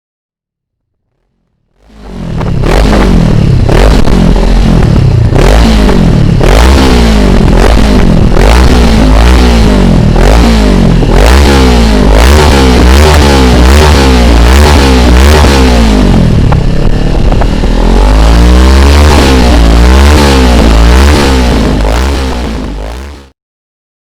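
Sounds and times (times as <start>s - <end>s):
motorcycle engine revving: 0.9s - 23.4s.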